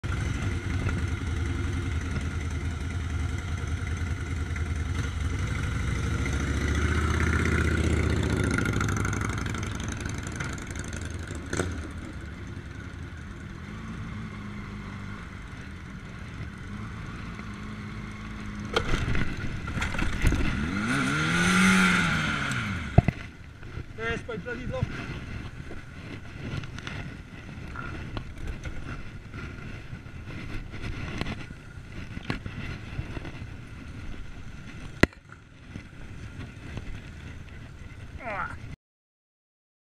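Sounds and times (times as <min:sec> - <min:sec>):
motorcycle engine revving: 0:00.0 - 0:38.5.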